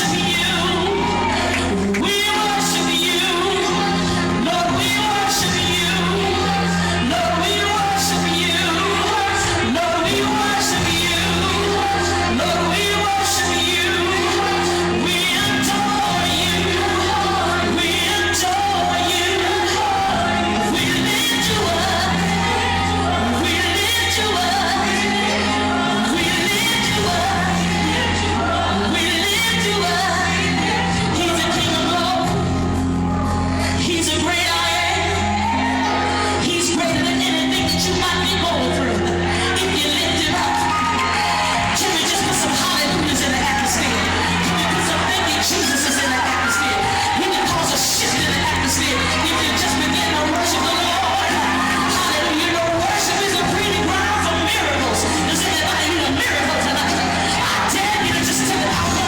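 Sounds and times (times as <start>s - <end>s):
band playing chords: 0.0s - 59.0s
woman singing gospel: 0.0s - 59.0s.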